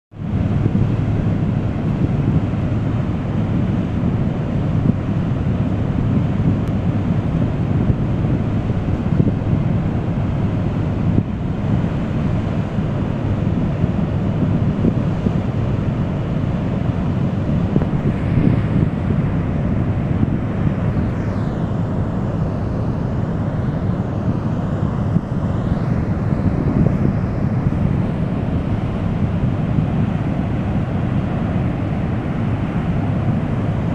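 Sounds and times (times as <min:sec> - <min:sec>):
water rushing through dam gates: 0:00.2 - 0:33.9.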